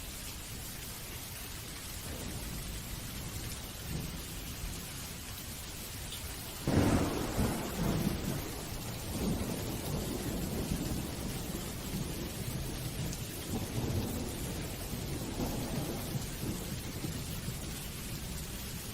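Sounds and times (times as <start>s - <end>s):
steady rain: 0.0s - 18.9s
thunder rumbling: 2.0s - 5.0s, 6.3s - 18.5s.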